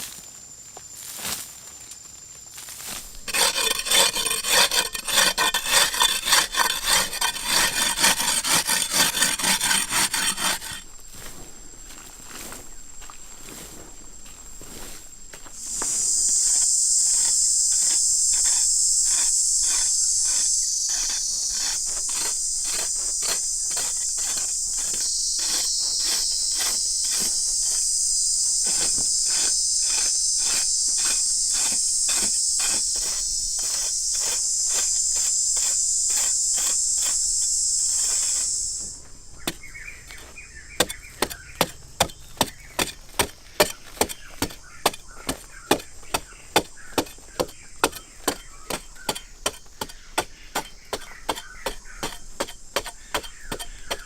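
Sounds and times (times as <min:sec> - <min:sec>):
high insect buzz: 0:02.6 - 0:54.0.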